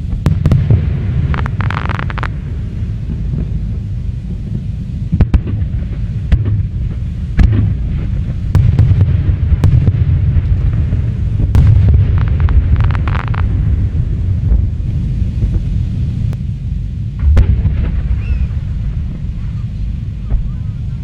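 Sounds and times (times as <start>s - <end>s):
fireworks shells booming: 0.0s - 16.4s, 17.1s - 21.0s
deep rumble of fireworks: 0.0s - 21.0s.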